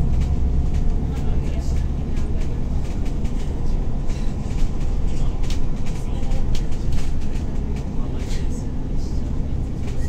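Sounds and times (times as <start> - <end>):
light clicks and rattles: 0.0 - 10.0
vehicle cabin rumble: 0.0 - 10.0.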